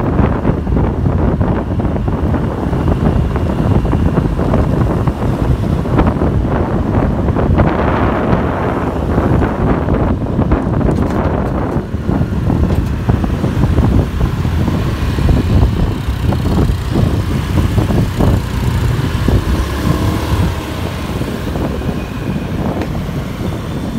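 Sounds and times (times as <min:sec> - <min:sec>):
engine and tyre rumble: 0:00.0 - 0:23.9
wind buffeting microphone: 0:00.0 - 0:23.9.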